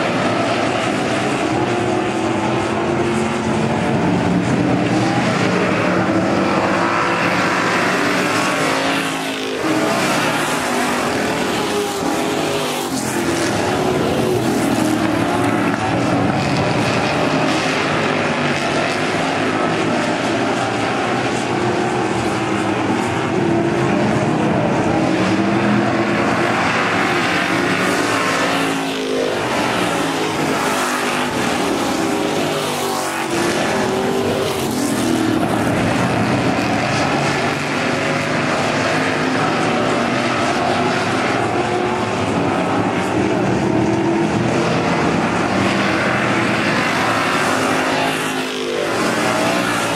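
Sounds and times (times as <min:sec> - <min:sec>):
race car engines at full throttle: 0:00.0 - 0:49.9.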